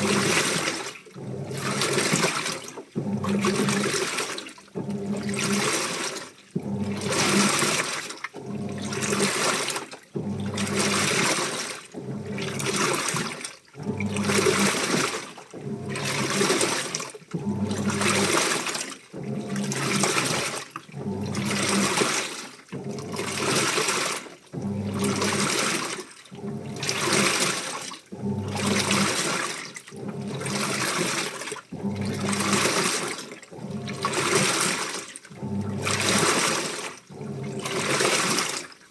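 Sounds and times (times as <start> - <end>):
laundry sloshing in water: 0.0 - 38.9
washing machine motor humming: 0.0 - 38.9.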